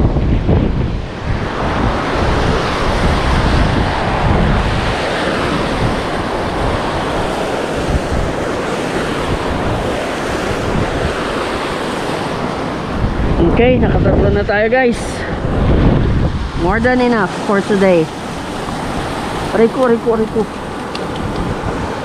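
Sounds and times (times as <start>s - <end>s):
turbulent water churning: 0.0s - 22.0s
wind buffeting microphone: 0.0s - 22.0s.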